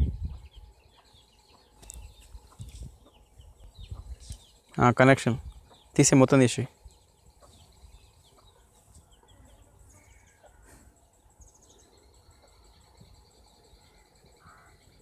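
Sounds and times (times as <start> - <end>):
distant birds chirping: 0.0 - 15.0
insects trilling: 0.0 - 15.0.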